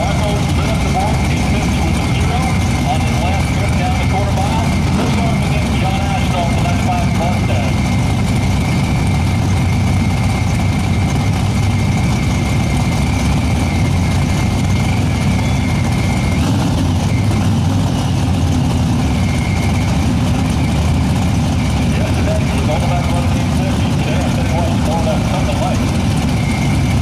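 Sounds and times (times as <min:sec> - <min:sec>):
car engine idling rumble: 0:00.0 - 0:27.0
thin high supercharger whine: 0:00.0 - 0:27.0.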